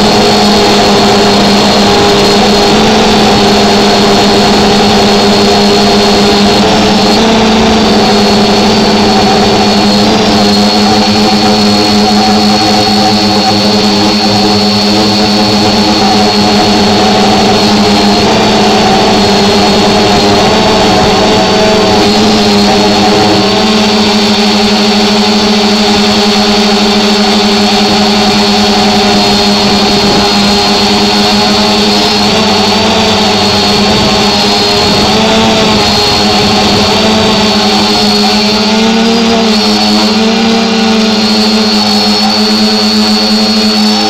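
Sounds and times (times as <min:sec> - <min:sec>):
drone motors humming and whining: 0:00.0 - 0:44.0.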